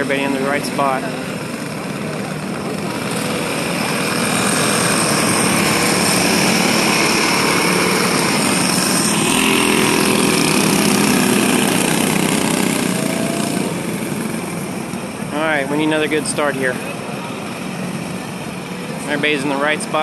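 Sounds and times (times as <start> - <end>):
racing kart engines: 0.0 - 20.0.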